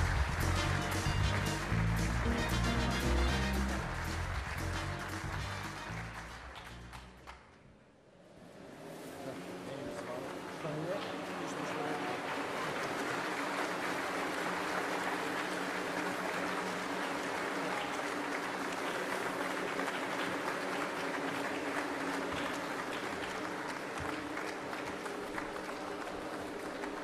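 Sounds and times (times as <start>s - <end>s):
audience applauding: 0.0s - 7.6s, 9.9s - 27.0s.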